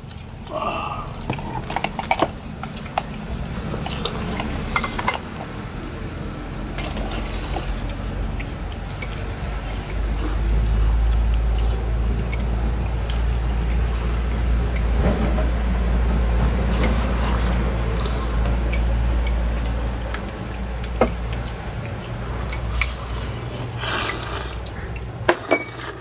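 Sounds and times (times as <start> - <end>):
steady low rumble: 0.0 - 25.3
bowls and chopsticks clinking: 0.0 - 26.0
eating noises: 0.0 - 26.0.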